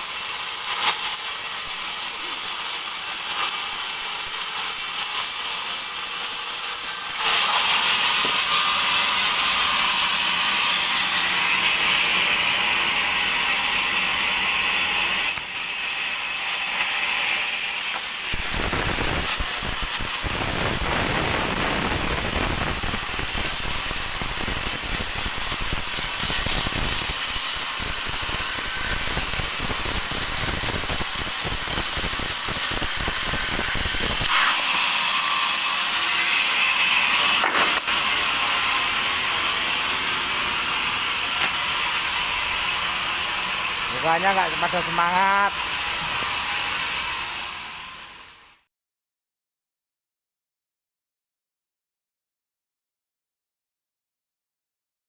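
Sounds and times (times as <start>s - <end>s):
band saw cutting wood: 0.0s - 48.6s.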